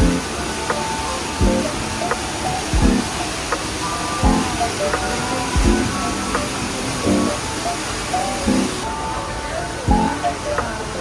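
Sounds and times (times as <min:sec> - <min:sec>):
pop music with synth tones: 0:00.0 - 0:11.0.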